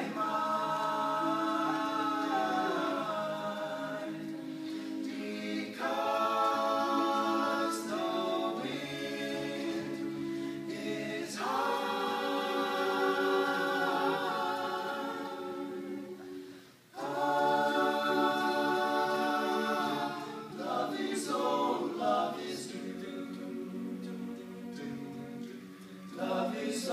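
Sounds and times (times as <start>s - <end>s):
a cappella group singing: 0.0s - 26.9s.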